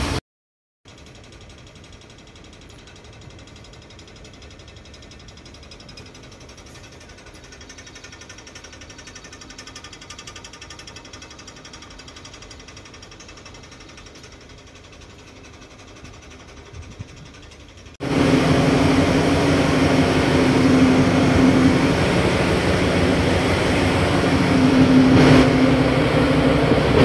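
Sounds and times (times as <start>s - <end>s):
ship machinery rattling: 0.9s - 27.0s.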